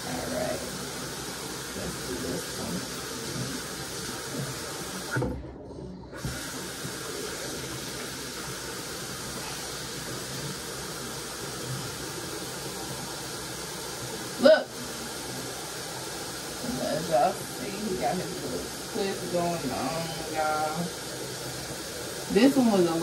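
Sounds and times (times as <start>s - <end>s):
tap water running into sink: 0.0s - 5.4s, 6.2s - 23.0s.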